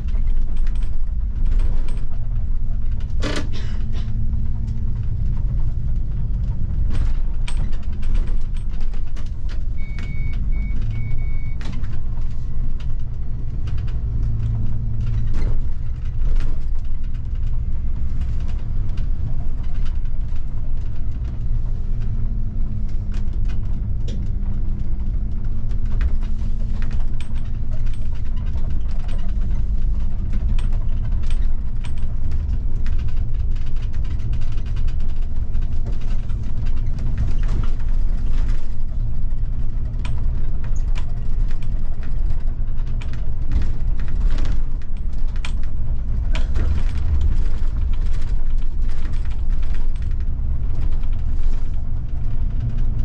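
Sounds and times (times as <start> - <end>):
bus engine and road rumble: 0.0 - 53.0
rattles and creaks of bus fittings: 0.0 - 53.0.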